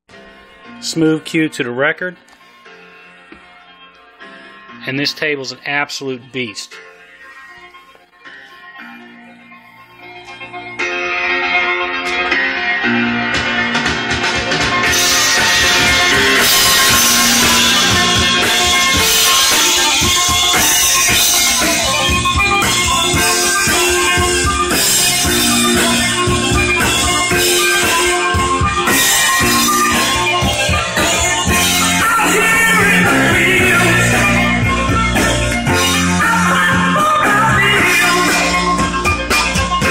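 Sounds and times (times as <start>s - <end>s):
rock music through speakers: 0.1s - 39.9s.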